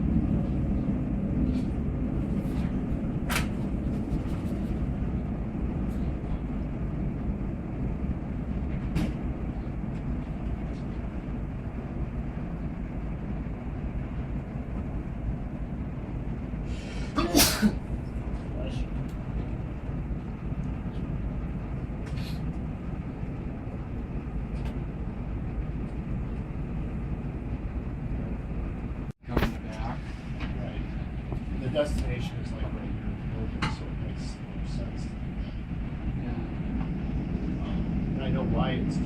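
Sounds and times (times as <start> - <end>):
muffled jet engine rumble: 0.0 - 39.0.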